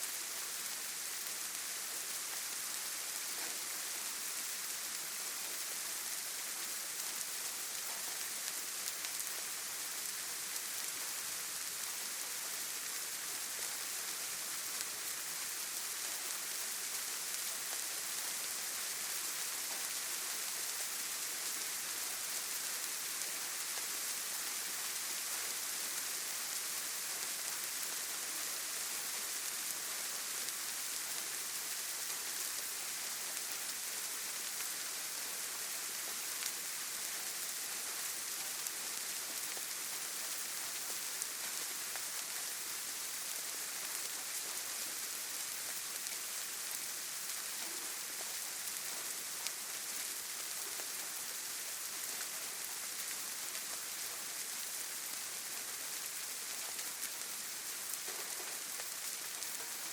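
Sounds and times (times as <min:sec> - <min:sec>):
rain on leaves and ground: 0:00.0 - 0:59.9.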